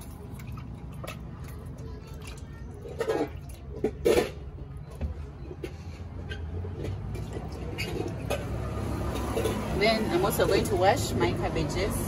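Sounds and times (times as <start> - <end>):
water sloshing in a metal bowl: 0.0 - 12.0.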